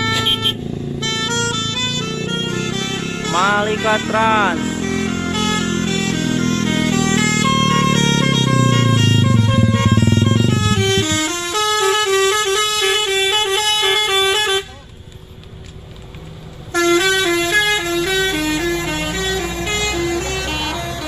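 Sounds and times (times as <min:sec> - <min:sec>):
musical bus air horn: 0:00.0 - 0:14.8, 0:16.7 - 0:21.0
diesel engine rumble: 0:00.0 - 0:21.0.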